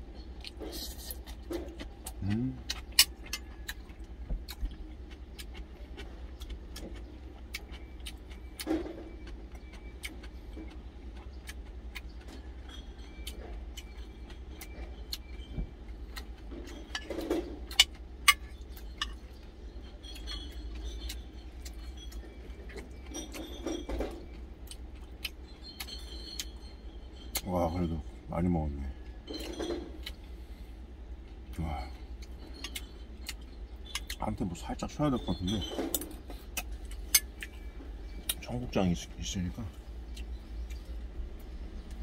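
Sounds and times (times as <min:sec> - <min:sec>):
steady low hum: 0:00.0 - 0:42.0
chewing with mouth clicks: 0:00.1 - 0:27.5, 0:29.9 - 0:34.4, 0:39.6 - 0:42.0.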